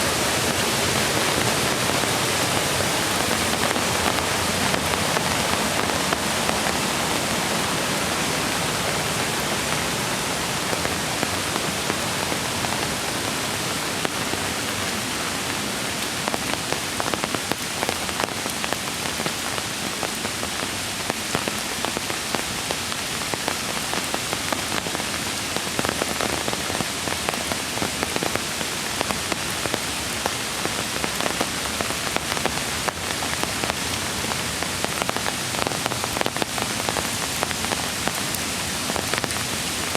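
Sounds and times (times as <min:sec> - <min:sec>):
creek rushing: 0:00.0 - 0:39.9
raindrops hitting: 0:00.0 - 0:39.9.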